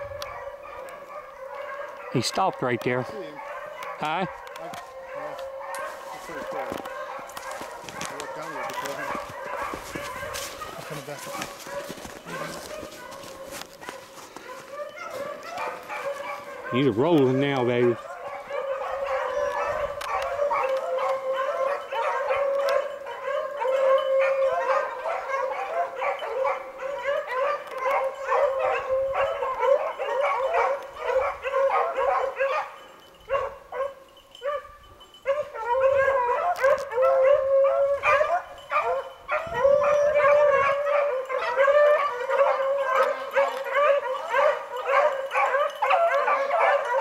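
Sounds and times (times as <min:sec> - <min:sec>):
beagles baying: 0:00.0 - 0:47.0.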